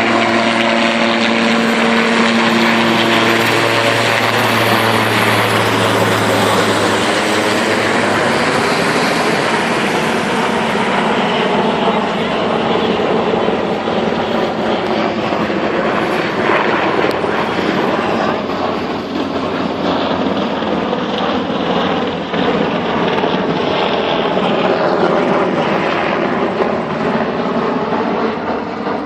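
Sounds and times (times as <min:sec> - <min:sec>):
helicopter rotor and engine noise: 0:00.0 - 0:29.0.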